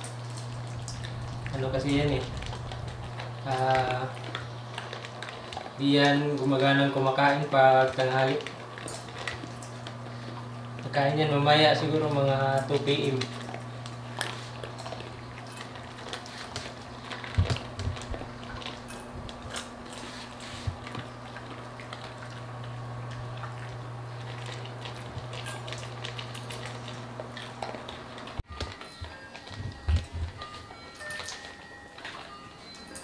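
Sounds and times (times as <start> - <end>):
steady low hum: 0.0 - 32.8
dogs crunching dry kibble: 0.0 - 33.0.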